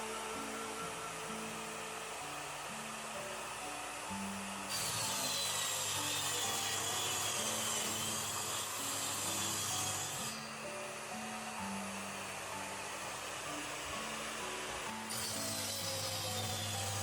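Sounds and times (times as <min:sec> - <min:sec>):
electric saw cutting wood: 0:00.0 - 0:17.0
high whine of saw: 0:00.0 - 0:17.0.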